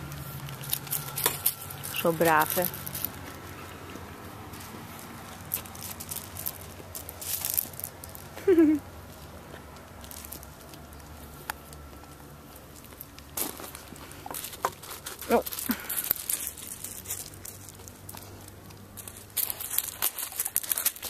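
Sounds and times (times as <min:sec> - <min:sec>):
pebbles clicking and crunching: 0:00.0 - 0:21.0
puppy chewing gravel: 0:00.0 - 0:21.0.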